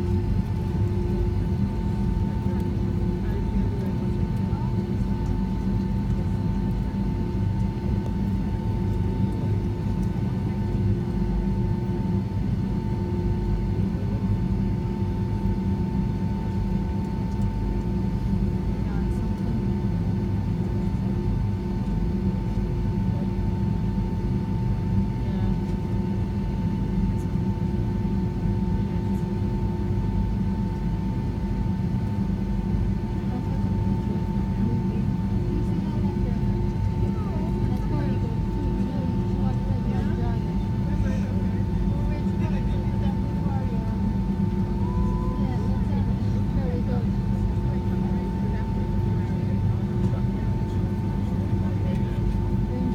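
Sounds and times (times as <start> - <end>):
jet engine drone in cabin: 0.0 - 52.9.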